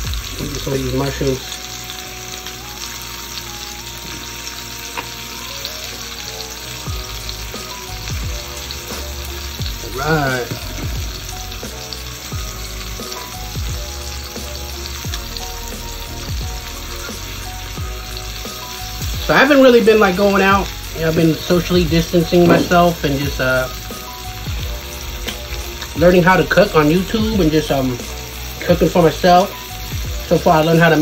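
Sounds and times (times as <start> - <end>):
meat sizzling on a grill plate: 0.0 - 31.0.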